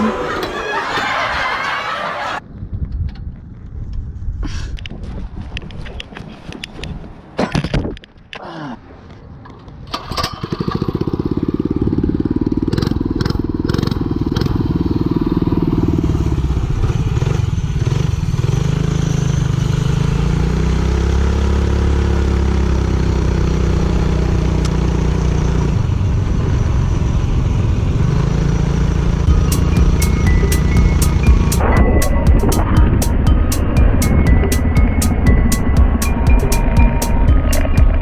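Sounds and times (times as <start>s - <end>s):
minibike engines droning: 0.0s - 2.4s, 9.9s - 38.0s.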